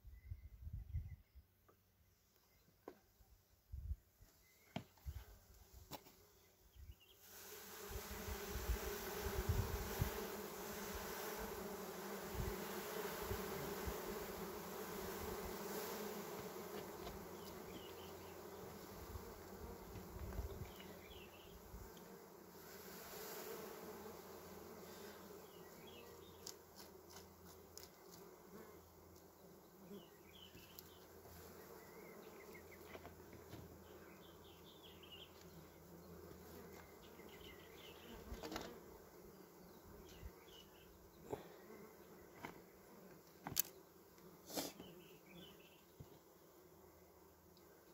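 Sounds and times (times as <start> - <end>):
bees buzzing: 7.2 - 47.9.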